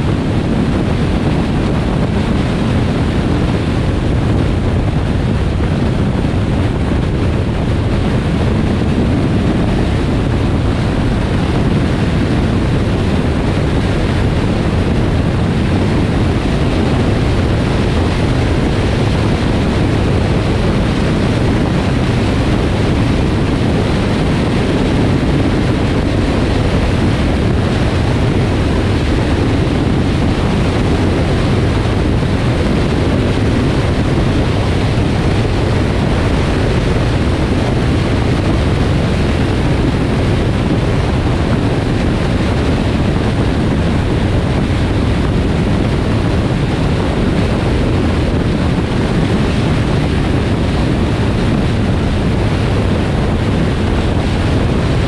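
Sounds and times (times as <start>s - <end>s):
car road noise: 0.0s - 55.0s
wind rush: 0.0s - 55.0s.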